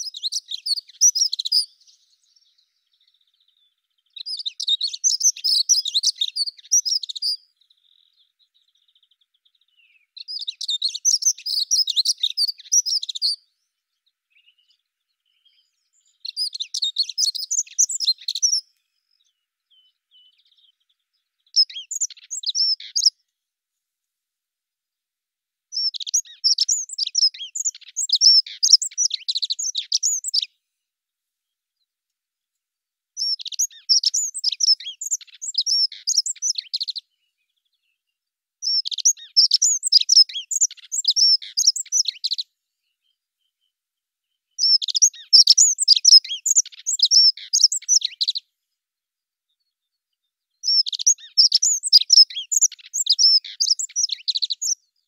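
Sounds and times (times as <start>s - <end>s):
bird warbling song: 0.0s - 23.3s, 25.7s - 30.6s, 33.2s - 48.6s, 49.5s - 55.0s.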